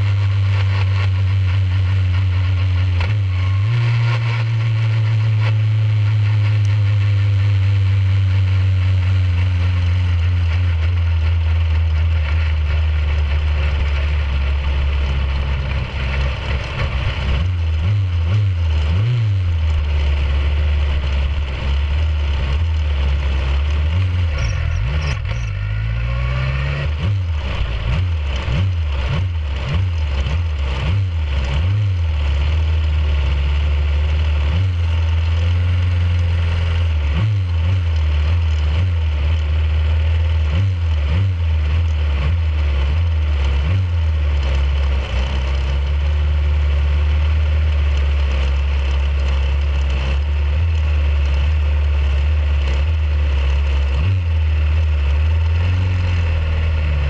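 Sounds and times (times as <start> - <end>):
engine throttle blips: 0.0 - 57.0
race car engine running: 0.0 - 57.0.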